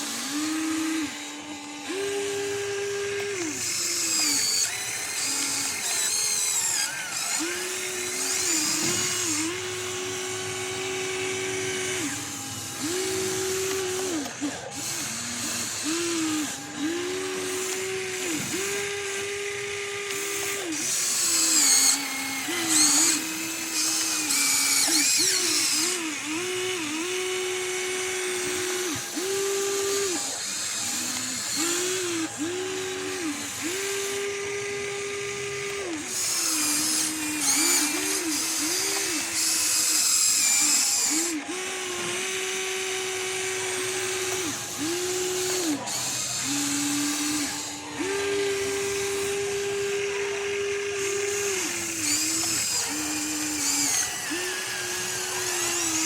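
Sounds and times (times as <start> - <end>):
gear whirring: 0.0 - 56.0
small electric motors whining: 0.0 - 56.0.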